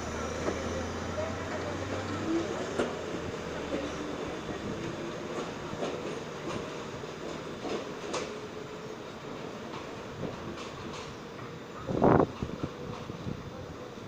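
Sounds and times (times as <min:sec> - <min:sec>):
subway train running on track: 0:00.0 - 0:14.0
wheels clicking over rail joints: 0:00.4 - 0:08.6, 0:09.3 - 0:13.4.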